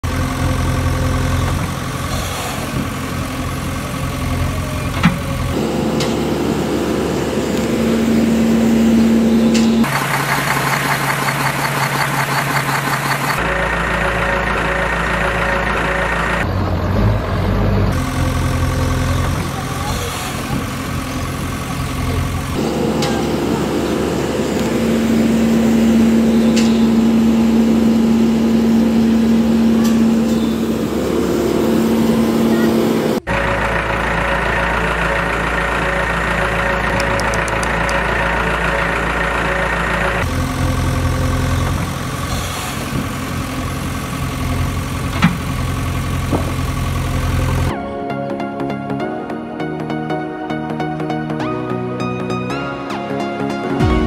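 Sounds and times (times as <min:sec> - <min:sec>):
vehicle engine running: 0:00.0 - 0:47.8.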